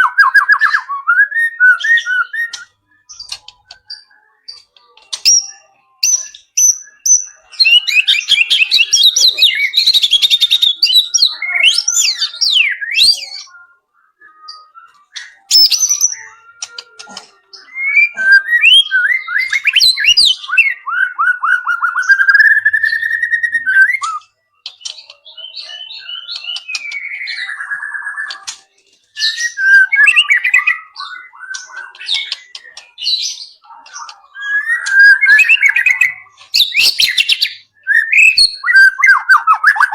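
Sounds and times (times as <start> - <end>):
bird singing varied trills: 0.0 - 39.9.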